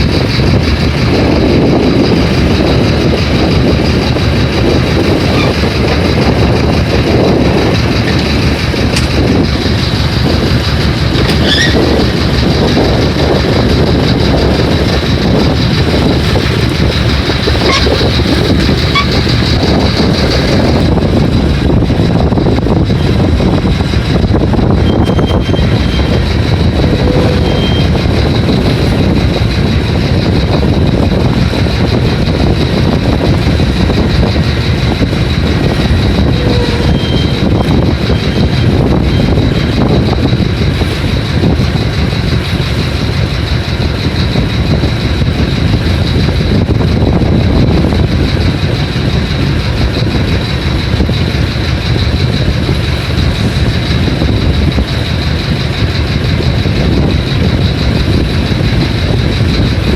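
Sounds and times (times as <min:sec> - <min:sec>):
strong wind on microphone: 0:00.0 - 0:59.9.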